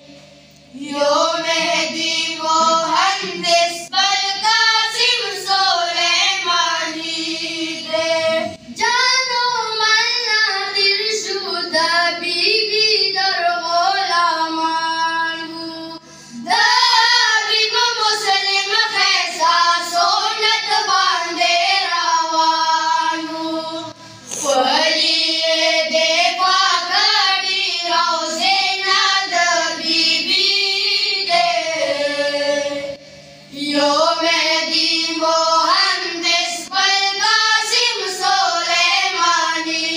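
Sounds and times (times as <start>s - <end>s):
boys singing together: 0.7s - 39.9s.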